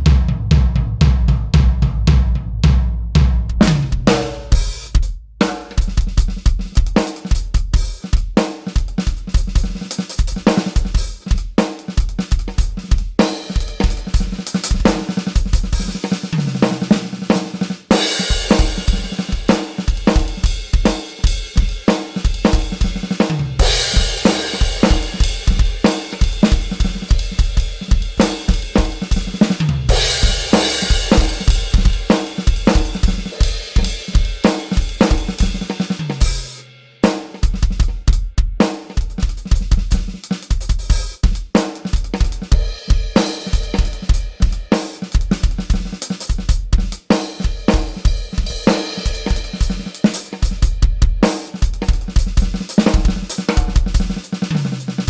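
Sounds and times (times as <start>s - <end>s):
drum kit groove: 0.0s - 55.0s.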